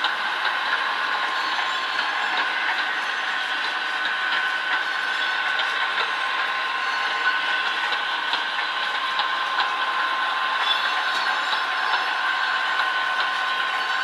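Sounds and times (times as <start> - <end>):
model train running sound: 0.0 - 14.0.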